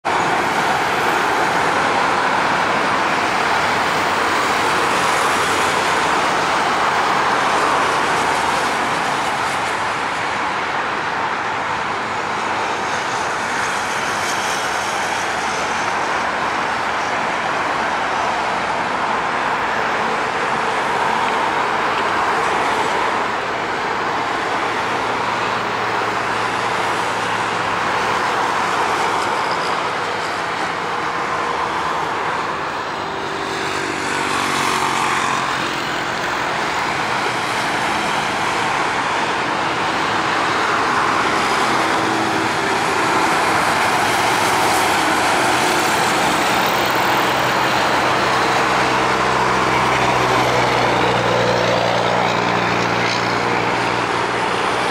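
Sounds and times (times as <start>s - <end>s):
jet engines rushing: 0.0s - 54.9s.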